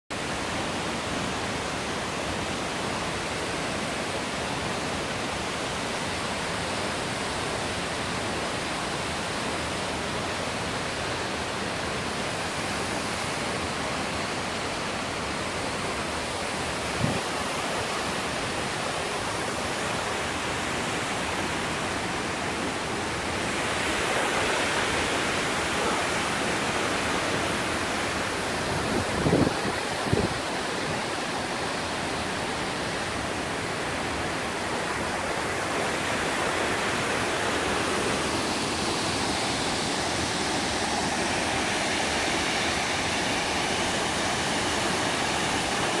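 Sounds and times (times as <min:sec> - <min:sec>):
waterfall roaring: 0:00.1 - 0:46.0.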